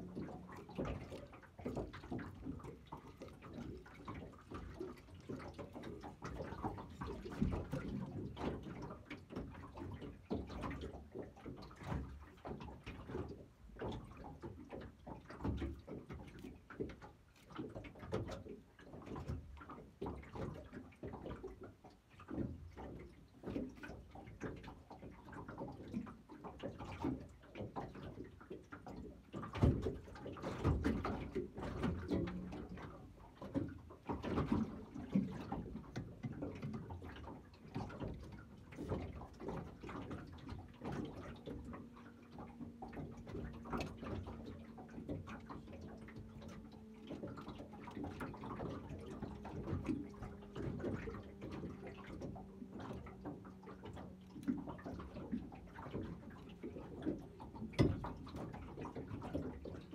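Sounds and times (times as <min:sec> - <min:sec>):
knocks and bumps in boat: 0:00.0 - 0:59.9
waves slapping boat hull: 0:00.0 - 0:59.9.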